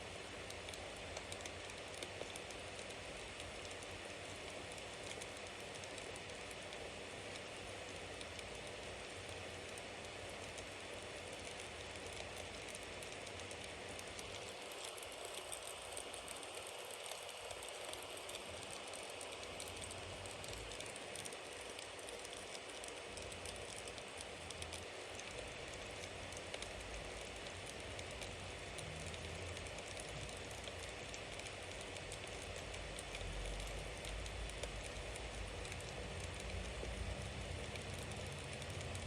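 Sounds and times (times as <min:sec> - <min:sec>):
flames hissing and rumbling: 0:00.0 - 0:39.0
bonfire crackling and popping: 0:00.2 - 0:39.0.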